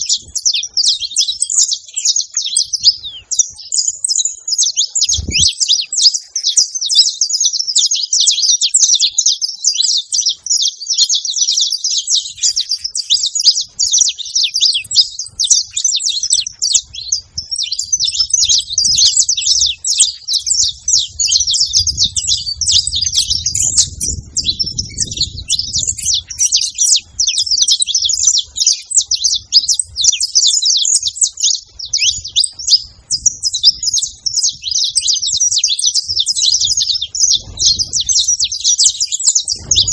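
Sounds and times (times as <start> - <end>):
finch chirping rapidly: 0.0 - 39.9.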